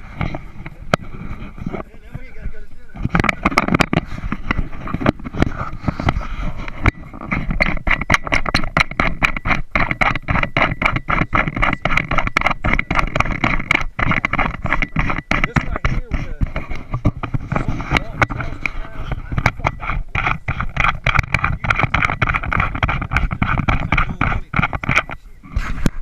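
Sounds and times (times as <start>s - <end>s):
rapid knocks and thumps: 0.0s - 26.0s.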